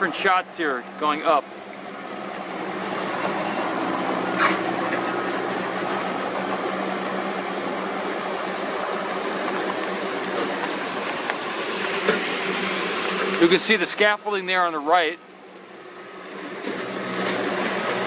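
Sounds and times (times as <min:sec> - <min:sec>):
machinery drone: 0:00.0 - 0:18.0.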